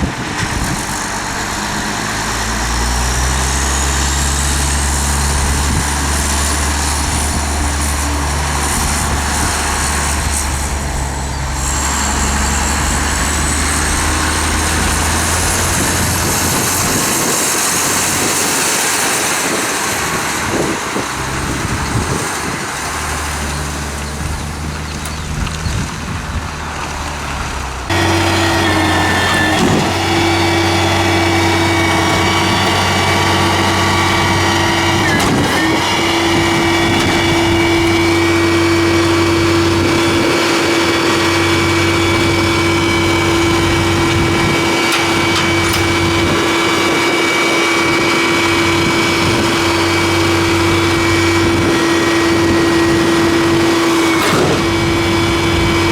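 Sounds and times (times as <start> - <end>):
garbage truck diesel engine: 0.0 - 55.9
hydraulic pump whine: 0.0 - 55.9.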